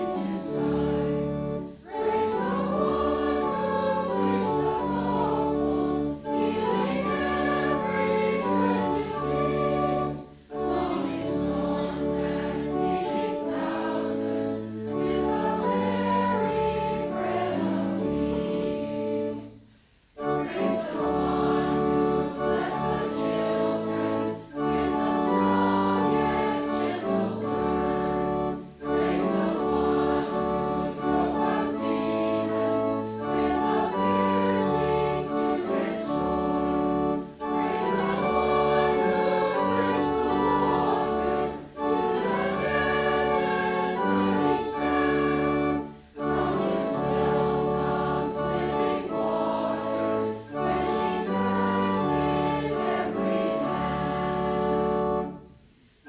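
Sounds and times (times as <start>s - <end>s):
congregation singing a hymn: 0.0s - 56.0s
organ accompaniment: 0.0s - 56.0s.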